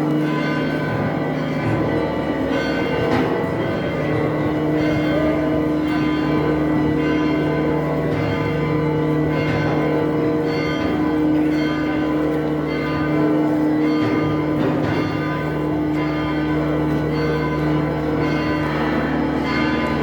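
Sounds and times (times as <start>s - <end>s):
church bells pealing: 0.0s - 20.0s.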